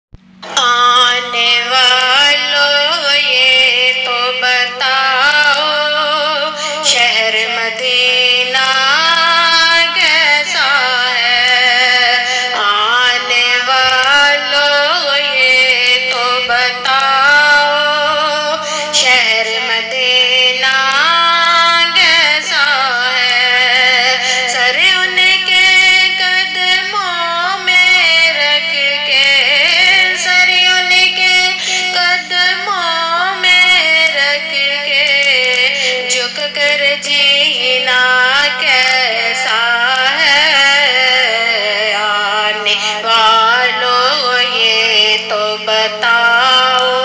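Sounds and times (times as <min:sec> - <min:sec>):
person singing devotional song: 0:00.2 - 0:47.0.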